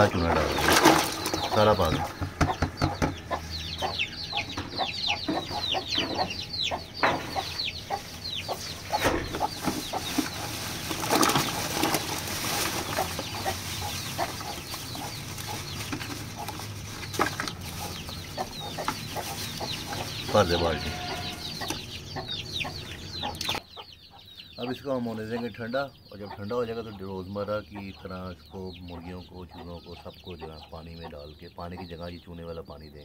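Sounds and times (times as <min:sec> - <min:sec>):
chickens clucking: 0:00.0 - 0:33.0
chicks peeping: 0:00.0 - 0:33.0.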